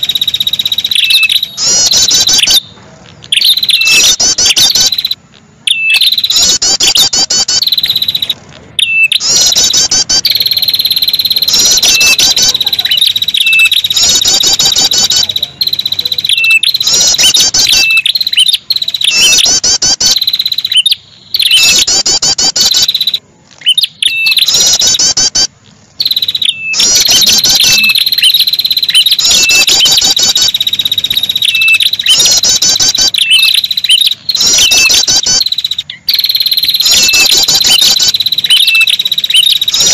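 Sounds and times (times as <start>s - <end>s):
steady high-pitched tone: 0.0s - 23.3s, 23.9s - 39.9s
bird trilling calls: 0.0s - 39.9s.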